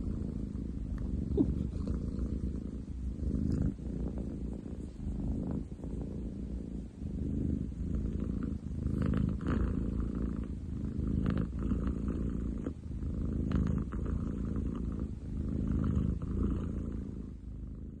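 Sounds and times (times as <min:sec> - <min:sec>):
cat purring loudly: 0:00.0 - 0:18.0.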